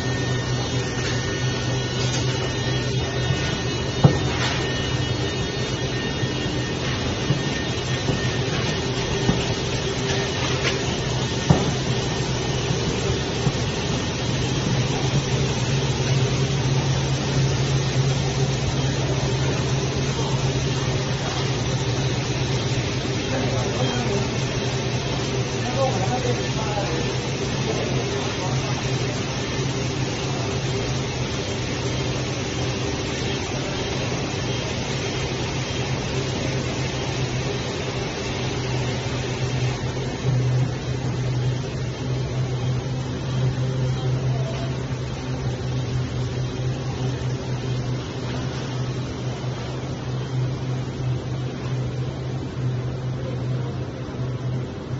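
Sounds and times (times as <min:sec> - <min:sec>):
machine hum and air-handling noise: 0:00.0 - 0:54.9.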